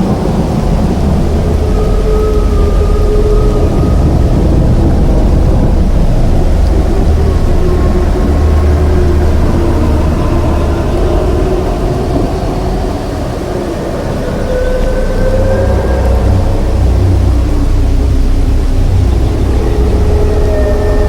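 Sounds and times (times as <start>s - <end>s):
deep rumbling creature bellow: 0.0s - 21.0s.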